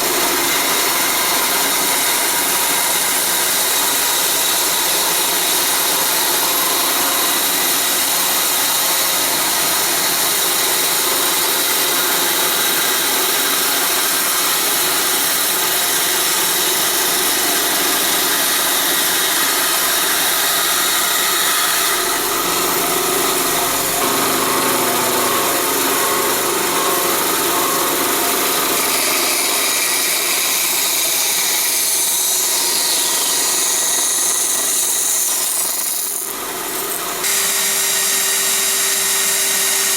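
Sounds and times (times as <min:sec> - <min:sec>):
power tool whining on wood: 0:00.0 - 0:39.9.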